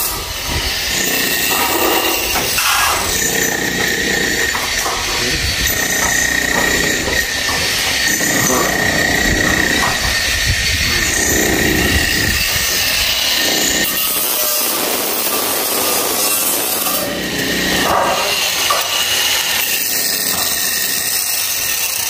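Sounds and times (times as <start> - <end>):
power tool whining on sheet metal: 0.0 - 22.0.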